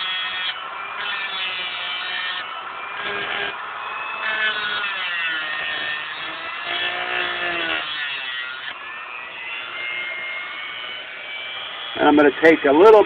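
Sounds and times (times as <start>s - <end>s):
electric grinder whining on metal: 0.0s - 13.0s.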